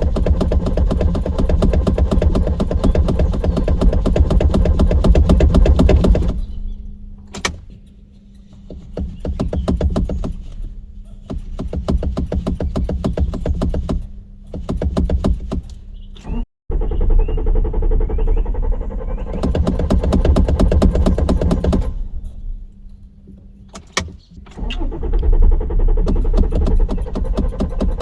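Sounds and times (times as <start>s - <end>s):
car starter motor cranking: 0.0s - 28.0s.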